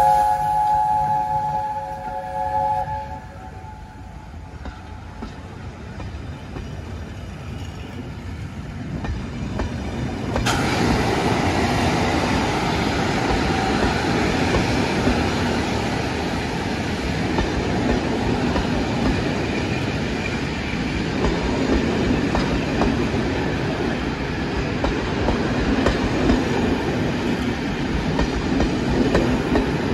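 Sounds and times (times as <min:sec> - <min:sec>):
train wheels clattering over rail joints: 0:04.5 - 0:29.9.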